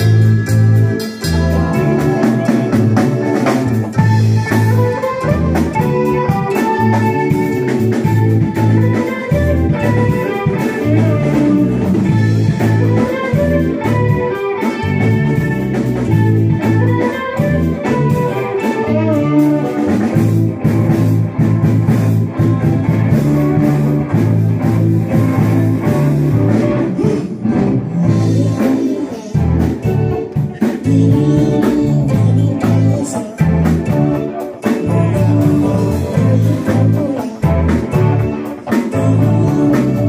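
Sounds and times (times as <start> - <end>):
drum kit: 0.0 - 40.0
electric guitar: 0.0 - 40.0
keyboard: 0.0 - 40.0.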